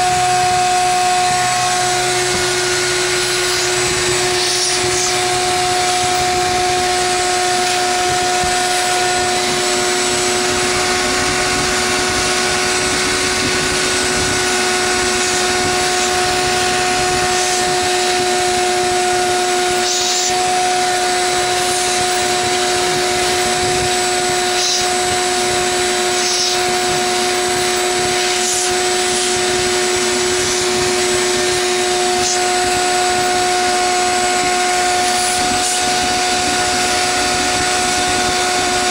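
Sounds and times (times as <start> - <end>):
vacuum motor hum: 0.0 - 38.9.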